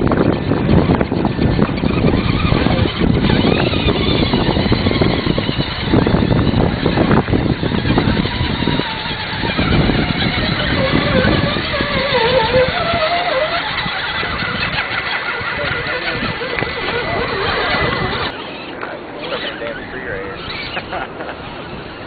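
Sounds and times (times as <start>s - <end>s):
electric motor and gear whine: 0.0s - 22.0s.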